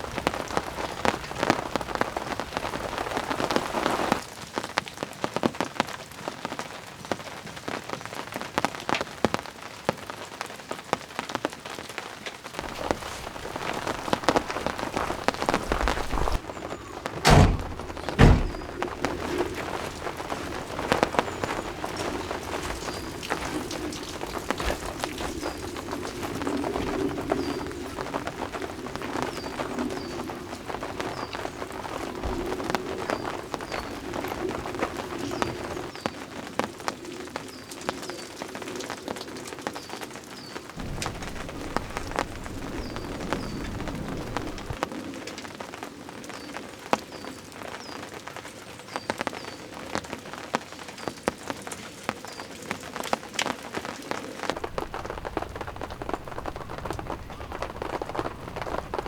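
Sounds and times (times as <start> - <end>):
rain drops tapping on a surface: 0.0 - 59.0.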